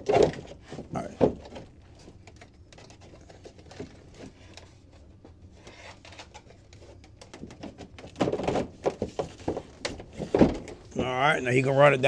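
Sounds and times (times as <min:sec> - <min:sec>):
wire rustling under plastic trim: 0:00.0 - 0:11.1.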